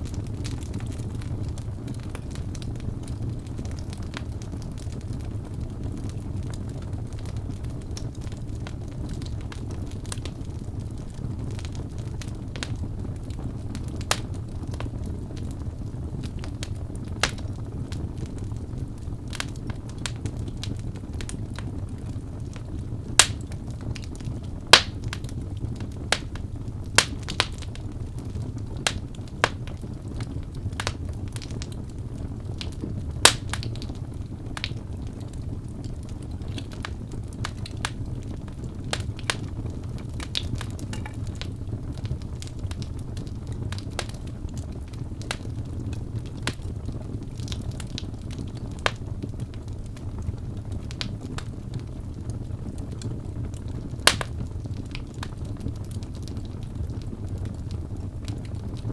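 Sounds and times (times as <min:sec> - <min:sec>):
fire crackling: 0:00.0 - 0:58.9
fire pops and snaps: 0:00.0 - 0:58.9.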